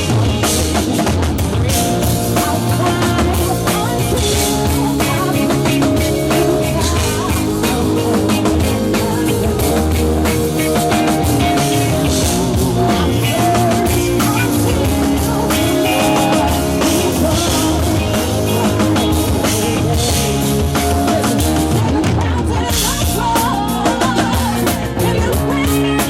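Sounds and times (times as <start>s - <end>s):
drum kit beat: 0.0s - 26.0s
live rock band playing: 0.0s - 26.0s.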